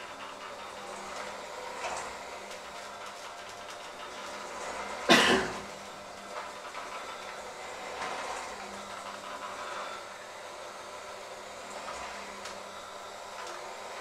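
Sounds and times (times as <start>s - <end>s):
electric hand mixer humming: 0.0s - 14.0s.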